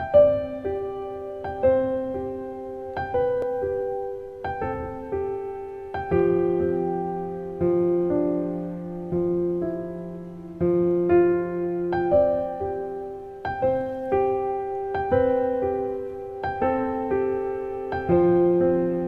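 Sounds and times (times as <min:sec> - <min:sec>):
slow piano notes: 0:00.0 - 0:19.0.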